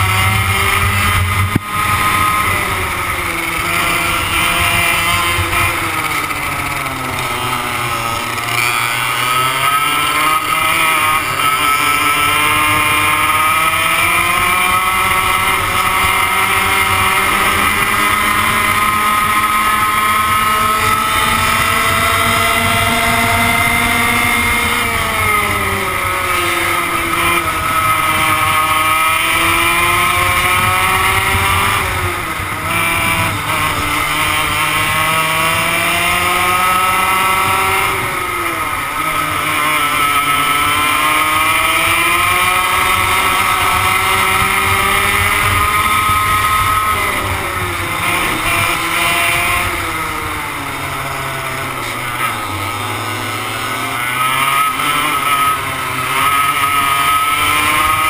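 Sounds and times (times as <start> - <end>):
kart engine at racing speed: 0.0 - 58.0.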